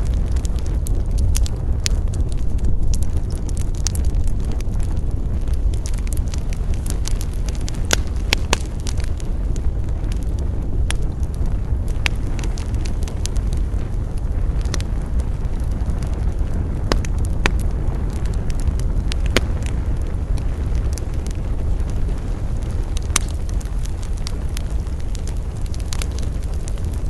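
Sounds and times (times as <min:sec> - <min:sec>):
low fire rumble: 0:00.0 - 0:27.0
wood crackling and popping: 0:00.0 - 0:27.0.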